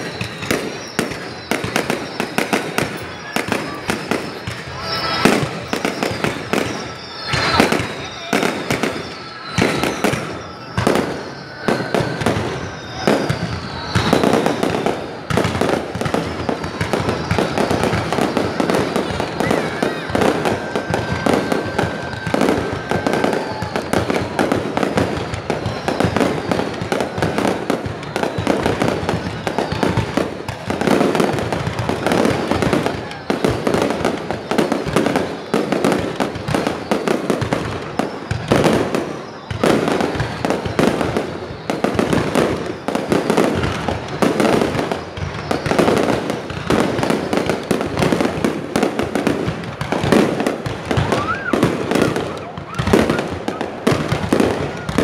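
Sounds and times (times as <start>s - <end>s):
high steady whistle: 0.0s - 49.1s, 49.8s - 54.9s
fireworks bangs and crackles: 0.0s - 55.0s.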